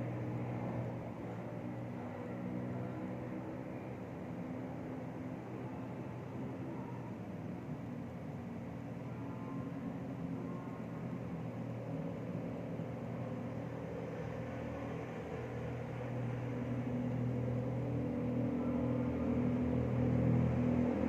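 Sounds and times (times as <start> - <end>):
low engine-like rumble: 0.0 - 21.0.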